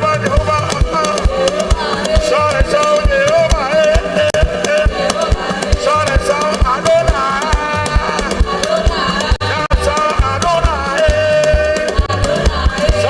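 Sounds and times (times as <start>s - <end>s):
band playing praise music: 0.0s - 13.0s
steady drum beat: 0.0s - 13.0s.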